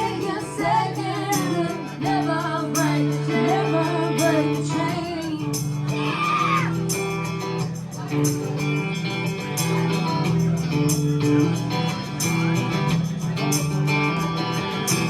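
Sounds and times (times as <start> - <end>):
bass line: 0.0 - 15.0
drums: 0.0 - 15.0
electric guitar chords: 0.0 - 15.0.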